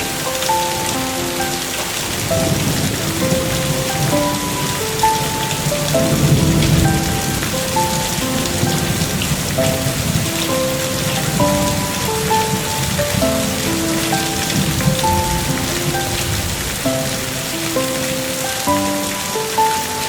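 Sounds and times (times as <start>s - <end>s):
slow melody of held notes: 0.0s - 20.0s.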